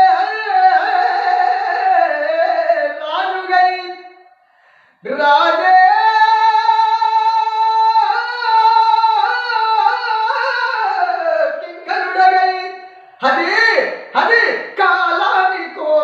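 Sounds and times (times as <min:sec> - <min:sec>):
man singing unaccompanied: 0:00.0 - 0:04.4, 0:05.0 - 0:16.0.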